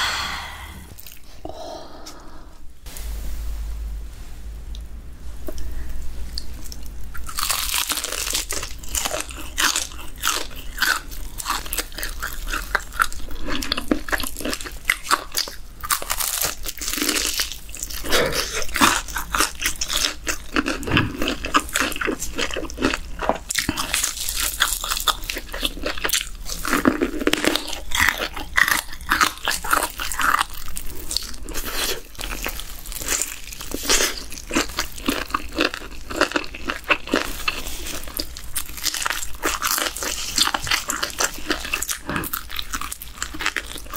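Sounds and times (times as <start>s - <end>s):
crunching fried chicken crust: 6.3s - 43.9s.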